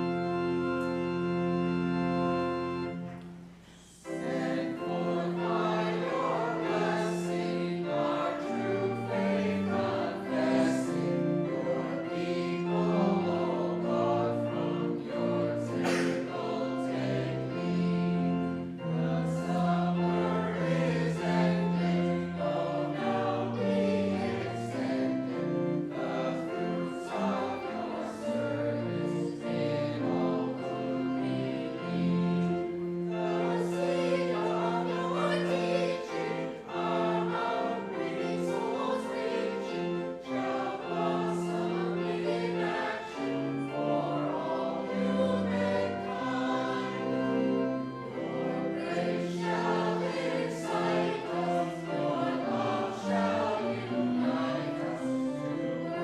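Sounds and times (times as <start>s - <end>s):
congregation singing a hymn: 0.0s - 56.0s
instrumental accompaniment: 0.0s - 56.0s.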